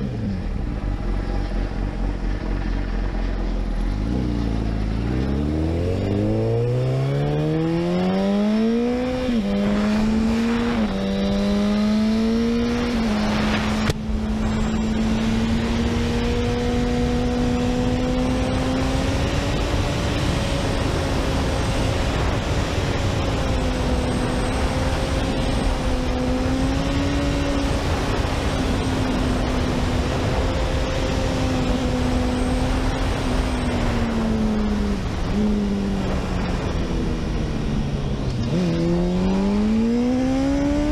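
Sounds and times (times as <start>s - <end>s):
motorcycle engine accelerating: 0.0s - 40.9s
wind rush on microphone: 8.2s - 40.9s.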